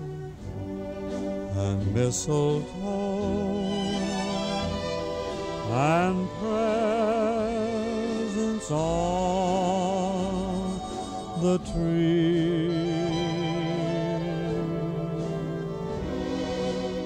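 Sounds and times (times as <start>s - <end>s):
slow film score melody with vibrato: 0.0s - 17.0s.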